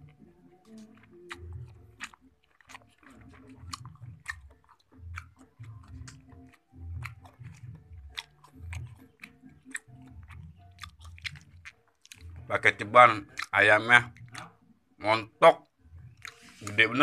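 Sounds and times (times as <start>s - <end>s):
person chewing: 0.0s - 14.7s, 15.6s - 17.0s.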